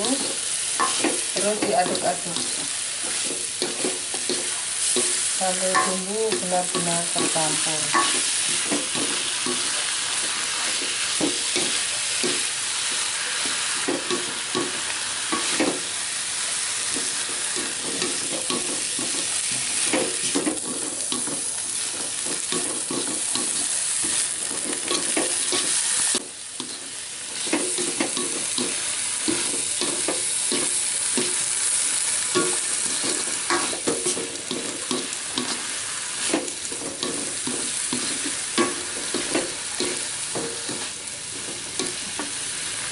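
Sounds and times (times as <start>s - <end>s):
spatula scraping and clacking pan: 0.0s - 15.9s, 16.9s - 42.4s
leaves sizzling in a wok: 0.0s - 42.9s.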